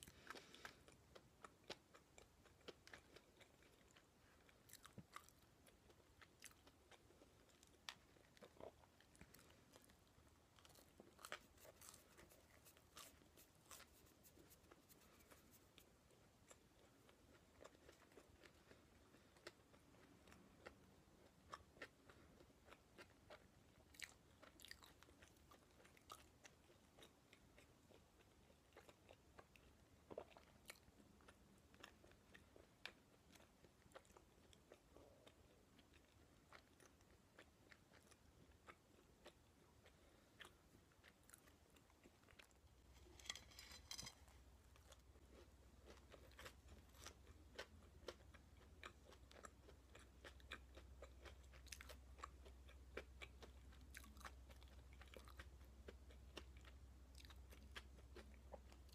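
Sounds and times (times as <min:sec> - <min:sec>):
person chewing: 0:00.0 - 0:58.9.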